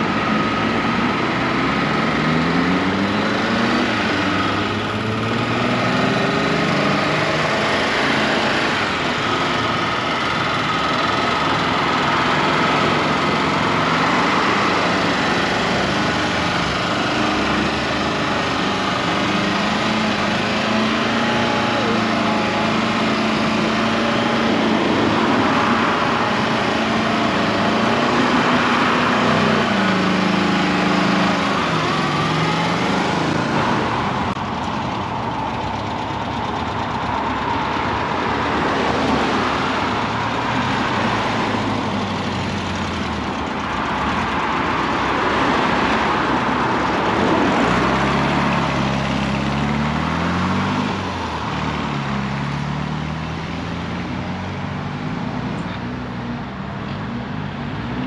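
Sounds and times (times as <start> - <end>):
car engines running: 0.0 - 58.0.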